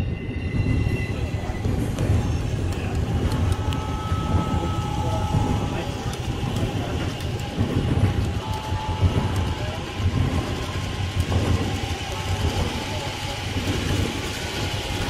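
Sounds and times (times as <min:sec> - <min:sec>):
model train wheels rumbling: 0:00.0 - 0:15.0.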